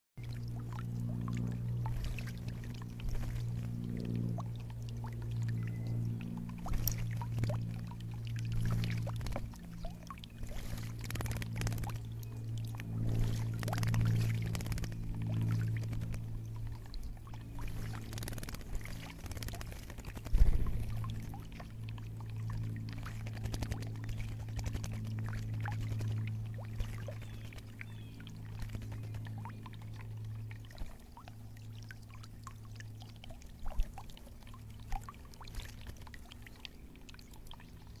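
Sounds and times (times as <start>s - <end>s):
bird splashing in water: 0.2s - 37.8s
steady low hum: 0.2s - 38.0s.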